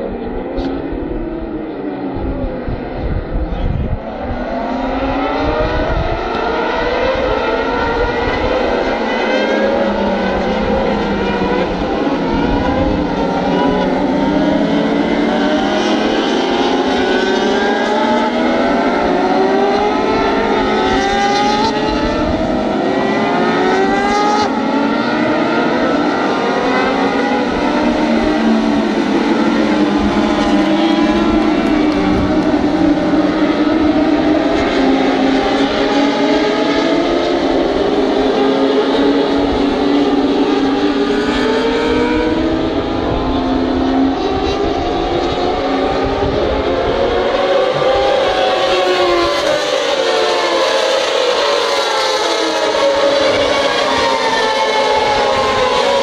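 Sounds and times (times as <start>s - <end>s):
racing motorcycles accelerating past: 4.5s - 56.0s.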